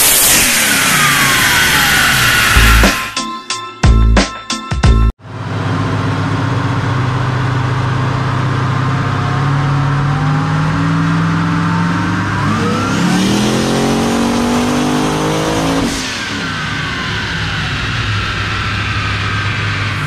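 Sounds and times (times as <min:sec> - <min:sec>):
engine revving at full throttle: 0:00.0 - 0:03.1, 0:05.3 - 0:20.0.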